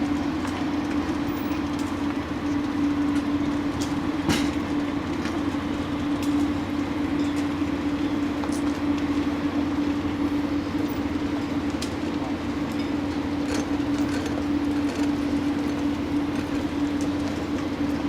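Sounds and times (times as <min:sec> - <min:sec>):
mechanical drone with low hum: 0:00.0 - 0:18.0.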